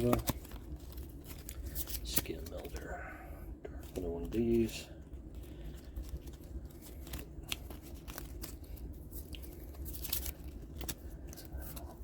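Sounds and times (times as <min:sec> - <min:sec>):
plastic cards clicking and rustling: 0:00.0 - 0:02.9, 0:03.8 - 0:12.0.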